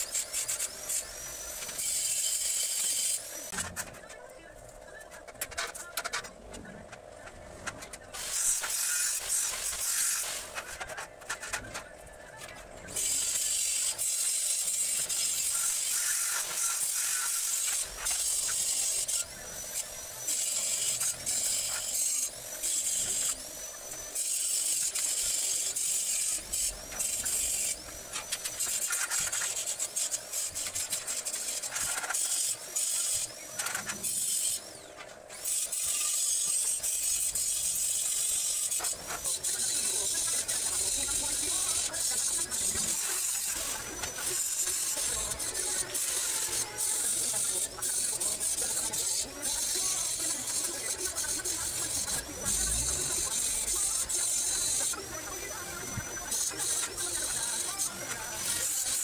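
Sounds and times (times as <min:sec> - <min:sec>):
angle grinder grinding steel: 0:00.0 - 0:04.0, 0:07.7 - 0:59.0.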